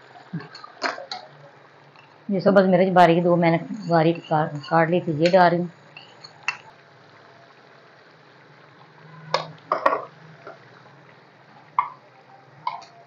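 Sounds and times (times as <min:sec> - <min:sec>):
curry bubbling in a pot: 0:00.0 - 0:03.3, 0:04.0 - 0:13.0.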